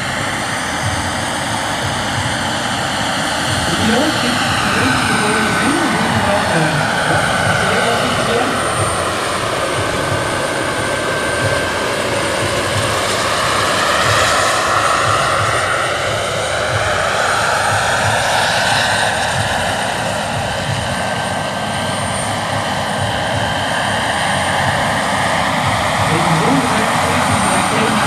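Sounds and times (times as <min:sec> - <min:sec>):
helicopter rotor beating: 0:00.0 - 0:28.0
model helicopter turbine whining: 0:00.0 - 0:28.0.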